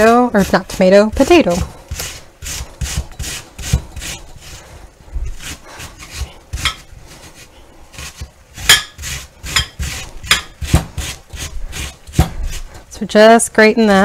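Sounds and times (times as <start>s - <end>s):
potato rasping on grater: 0.0s - 13.2s.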